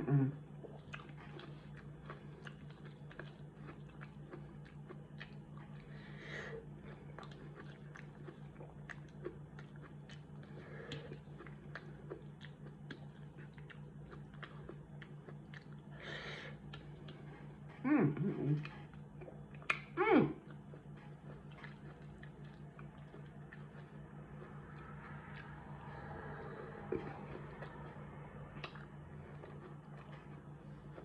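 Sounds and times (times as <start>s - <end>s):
low steady hum: 0.0s - 31.0s
close-up chewing and biting: 0.5s - 17.8s, 18.6s - 31.0s.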